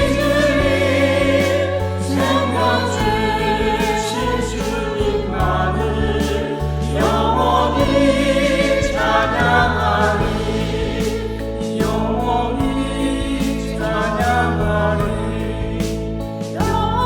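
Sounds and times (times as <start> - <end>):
church choir singing: 0.0 - 17.0.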